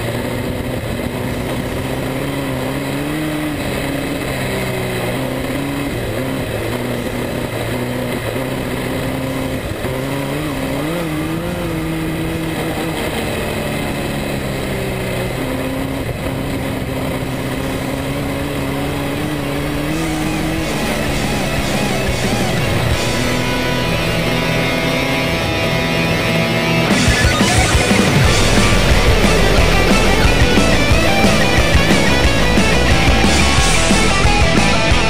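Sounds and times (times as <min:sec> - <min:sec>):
race car engine under load: 0:00.0 - 0:35.0.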